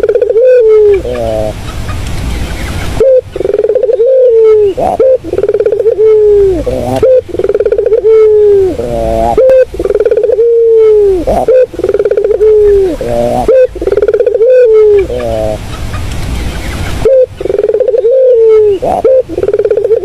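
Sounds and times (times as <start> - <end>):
dove cooing: 0.0 - 2.0, 2.9 - 15.7, 16.9 - 20.0.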